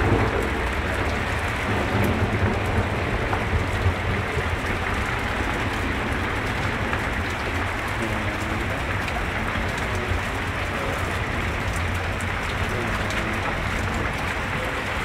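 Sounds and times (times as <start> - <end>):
rain and running water: 0.0 - 15.0.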